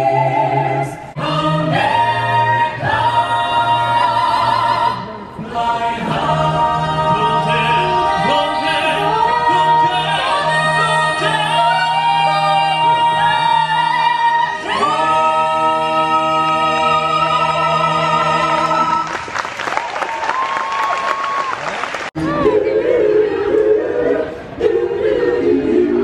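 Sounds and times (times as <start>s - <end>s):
a cappella choir singing: 0.0s - 19.3s, 22.2s - 26.0s.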